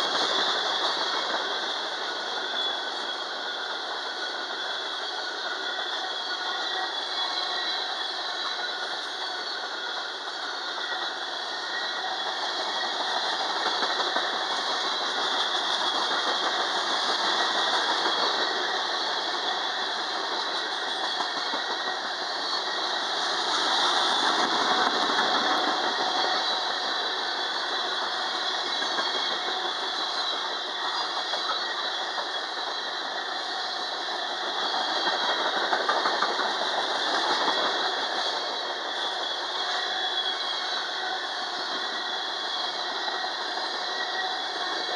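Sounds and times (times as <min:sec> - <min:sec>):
clickety-clack of wheels: 0:00.0 - 0:44.9
train wheels rolling on rails: 0:00.0 - 0:44.9.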